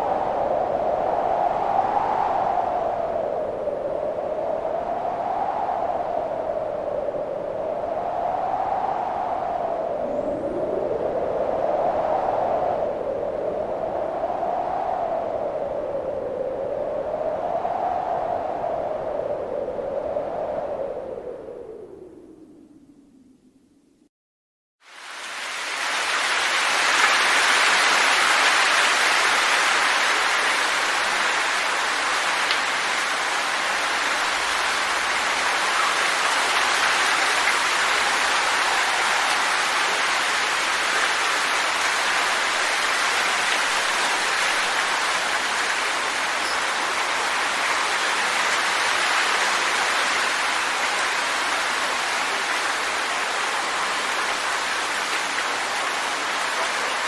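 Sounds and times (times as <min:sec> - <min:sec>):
strong wind rushing: 0:00.0 - 0:23.5, 0:25.4 - 0:57.0.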